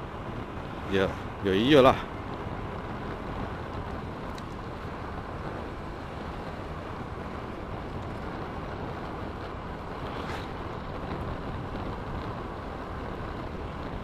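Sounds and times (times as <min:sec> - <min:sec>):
tyres on road: 0:00.0 - 0:14.0
wind rushing over microphone: 0:00.0 - 0:14.0
scooter passing: 0:02.4 - 0:14.0.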